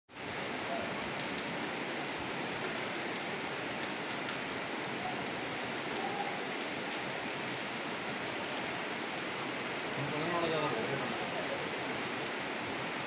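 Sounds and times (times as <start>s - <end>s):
river rushing: 0.1s - 13.0s.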